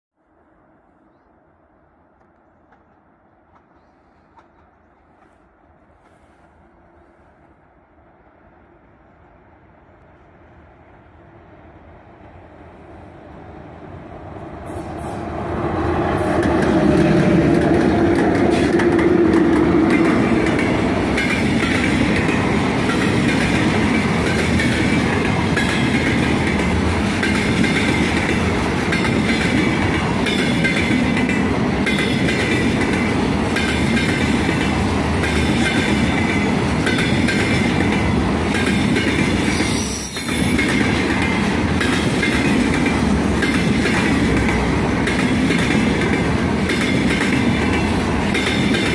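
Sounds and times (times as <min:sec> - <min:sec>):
electric locomotive droning: 0:01.8 - 0:48.9
freight train wheels rumbling: 0:02.1 - 0:48.9.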